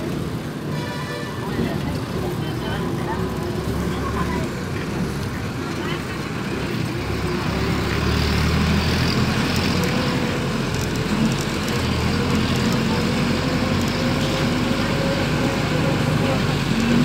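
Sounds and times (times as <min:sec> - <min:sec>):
road noise: 0:00.0 - 0:17.0
vehicle engine running: 0:01.5 - 0:17.0.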